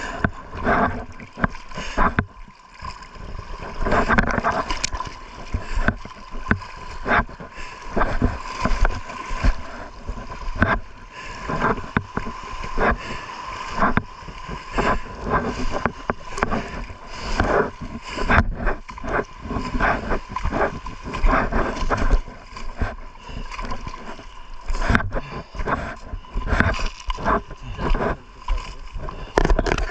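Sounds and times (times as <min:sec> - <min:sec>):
seawater sloshing and splashing: 0:00.0 - 0:29.9
wind rumbling on microphone: 0:00.0 - 0:29.9.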